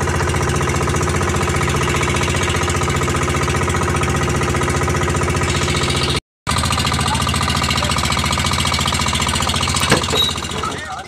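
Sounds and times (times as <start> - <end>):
boat engine pulsing: 0.0 - 11.0.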